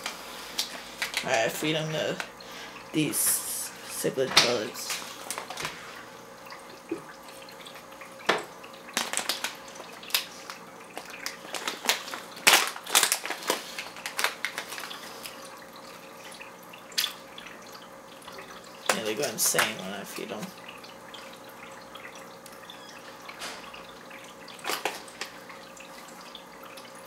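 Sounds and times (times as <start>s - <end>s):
small splashes and drips on water: 4.4s - 27.0s.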